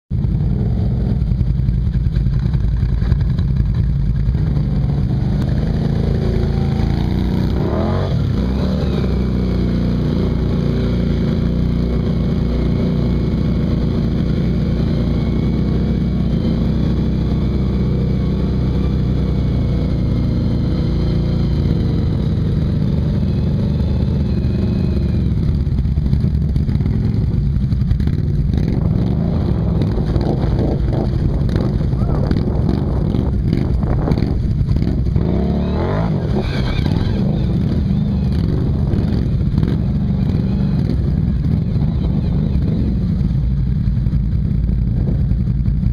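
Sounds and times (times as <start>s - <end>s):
quad bike engine running: 0.1s - 45.9s.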